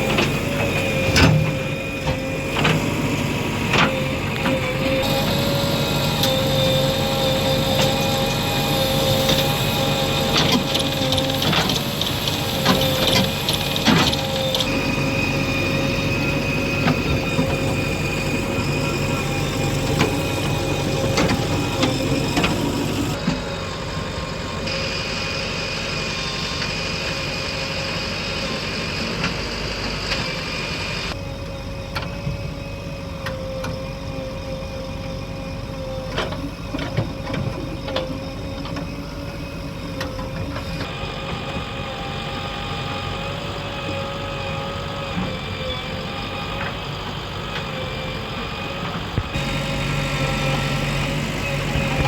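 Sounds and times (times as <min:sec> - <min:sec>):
construction machinery diesel engines: 0:00.0 - 0:52.0.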